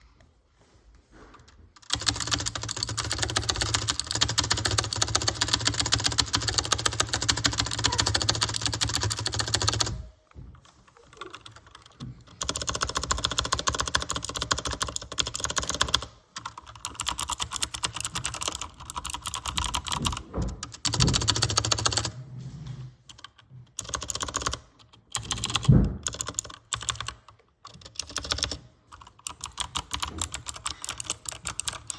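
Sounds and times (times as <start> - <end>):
fast typing on keyboard: 1.7 - 22.2, 23.1 - 31.9.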